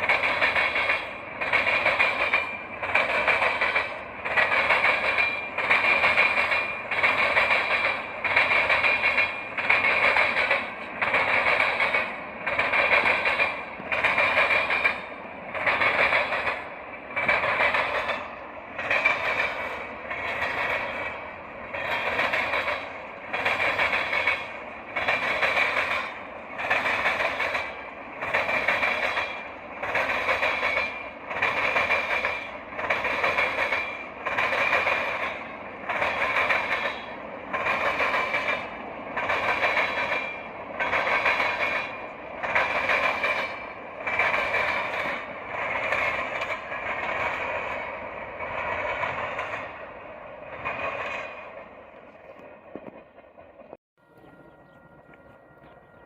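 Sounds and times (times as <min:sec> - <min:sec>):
train cars rolling on rails: 0:00.0 - 0:56.0.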